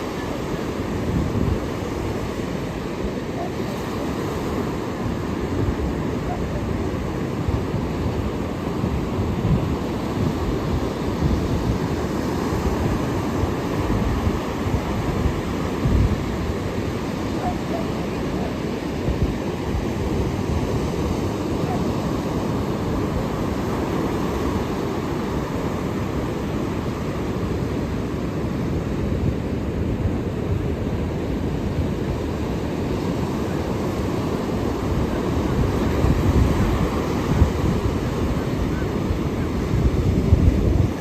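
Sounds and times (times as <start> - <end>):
ocean surf breaking on shore: 0.0 - 41.0
wind buffeting microphone: 0.0 - 41.0.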